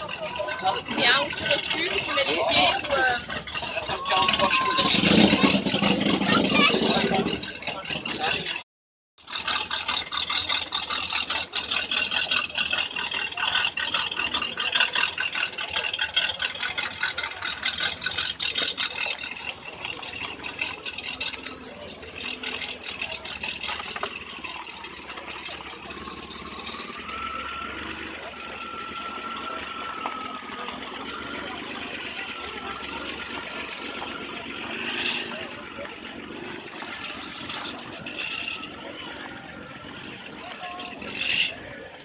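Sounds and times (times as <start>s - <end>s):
engine idling: 0.0s - 8.6s, 9.2s - 42.0s.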